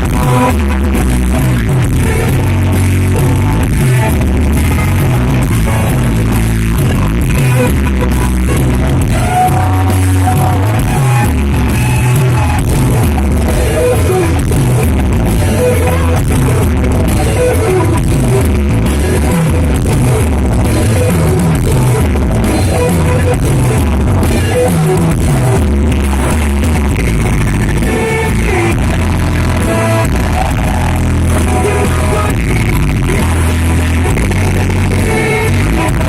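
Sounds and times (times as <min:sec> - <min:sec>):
electric guitars: 0:00.0 - 0:36.0
live rock band playing: 0:00.0 - 0:36.0
pulsing bass line: 0:00.0 - 0:36.0
steady drums: 0:00.0 - 0:36.0.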